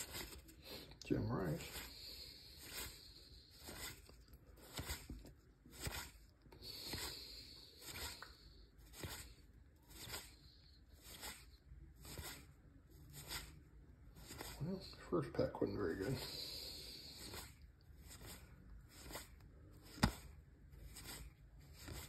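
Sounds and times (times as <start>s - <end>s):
cards sliding with papery scrape: 0.0s - 22.0s.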